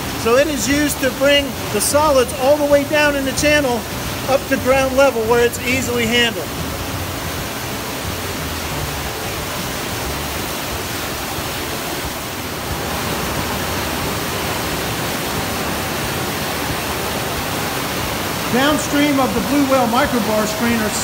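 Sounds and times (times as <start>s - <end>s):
wastewater rushing and falling: 0.0s - 21.0s.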